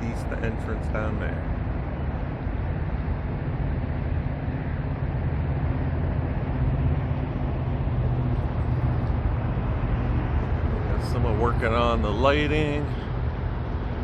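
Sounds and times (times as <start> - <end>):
constant low hum: 0.0 - 14.0
low engine rumble: 0.0 - 14.0.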